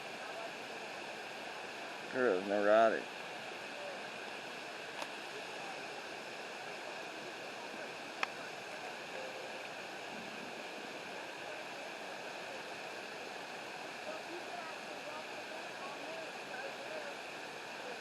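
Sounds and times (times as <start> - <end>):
waterfall rushing water: 0.0 - 18.0.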